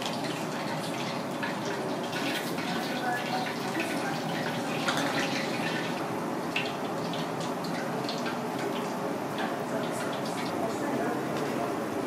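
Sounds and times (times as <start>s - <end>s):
broth bubbling in saucepan: 0.0s - 12.0s.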